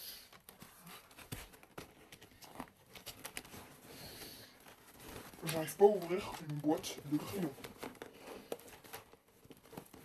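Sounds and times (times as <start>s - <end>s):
fabric case rustling: 0.3s - 10.0s.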